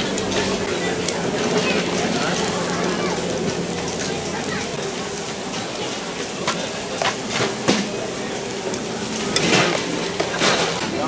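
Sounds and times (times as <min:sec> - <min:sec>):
market crowd din: 0:00.0 - 0:11.0.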